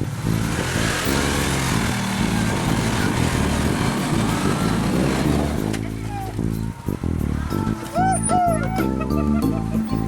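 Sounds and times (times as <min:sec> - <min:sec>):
utility vehicle engine revving: 0:00.0 - 0:10.0.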